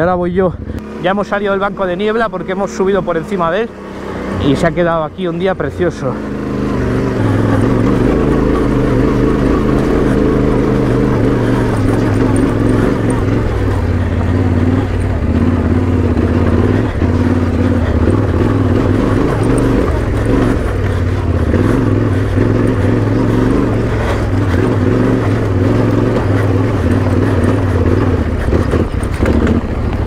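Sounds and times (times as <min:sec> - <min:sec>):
motorcycle engine under load: 0:00.0 - 0:30.0.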